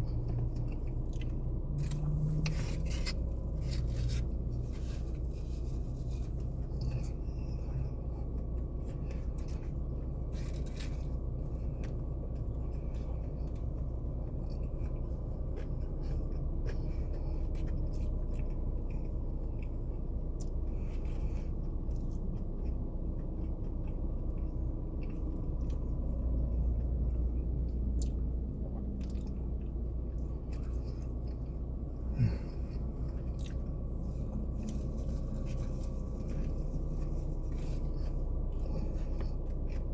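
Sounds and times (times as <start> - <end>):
car cabin rumble: 0.0 - 39.9.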